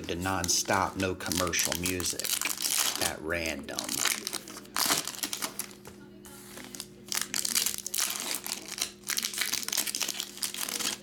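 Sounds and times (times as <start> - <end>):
foil wrapper crinkling: 0.0 - 5.9, 6.5 - 11.0.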